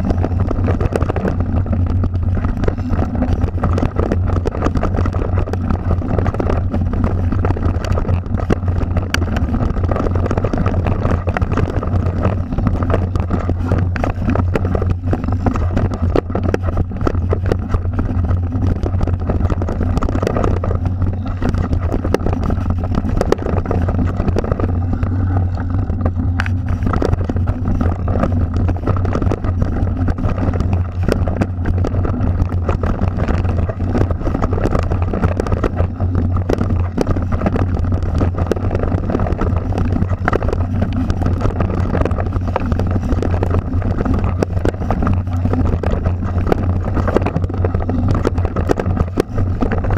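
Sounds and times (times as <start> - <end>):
bike rattling and clicking: 0.0 - 49.9
tyres rumbling on dirt: 0.0 - 49.9
wind on microphone: 0.0 - 49.9.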